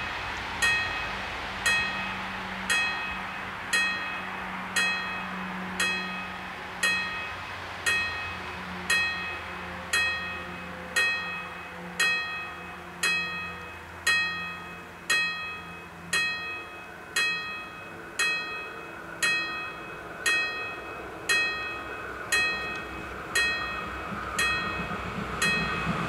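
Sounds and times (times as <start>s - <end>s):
approaching train noise: 0.0s - 26.0s
level-crossing warning bell: 0.0s - 26.0s.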